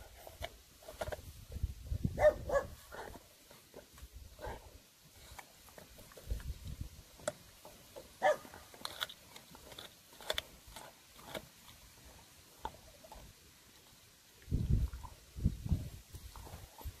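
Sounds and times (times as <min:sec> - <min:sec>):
dog gnawing and crunching bone: 0:00.0 - 0:15.3, 0:16.0 - 0:17.0.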